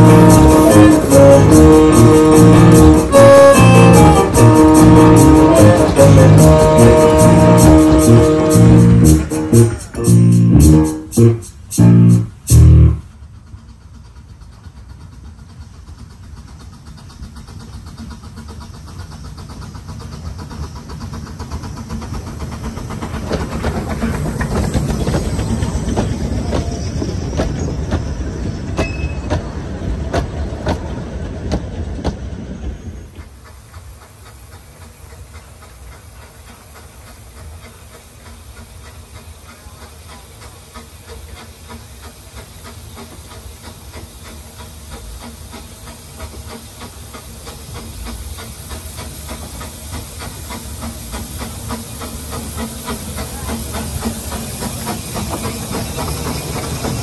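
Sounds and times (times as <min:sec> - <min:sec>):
steam locomotive hissing: 0:00.0 - 0:57.0
train coaches rattling past: 0:00.0 - 0:57.0.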